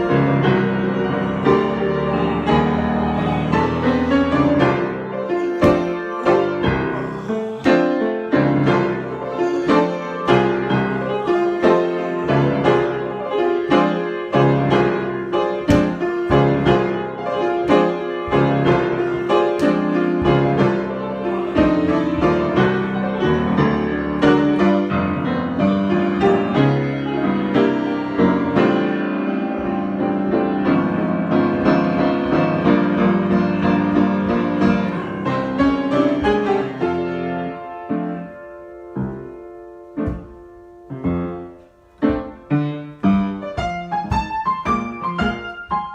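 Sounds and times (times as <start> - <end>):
solo piano: 0.0 - 45.9.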